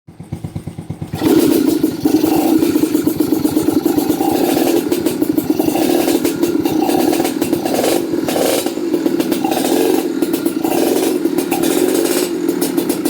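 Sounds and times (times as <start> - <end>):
motorcycle engine running: 0.1 - 13.0
electric starter cranking: 1.1 - 13.0.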